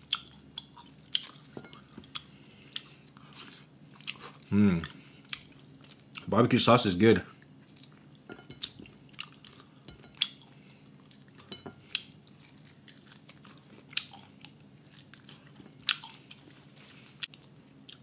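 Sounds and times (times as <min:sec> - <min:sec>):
person chewing: 0:00.0 - 0:06.3, 0:07.4 - 0:18.0.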